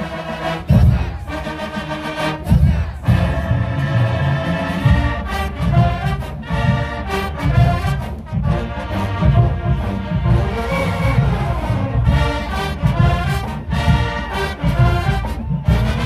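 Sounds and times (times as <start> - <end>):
brass sustaining chords: 0.0 - 16.0
bass drums beating: 0.7 - 1.3, 2.4 - 16.0.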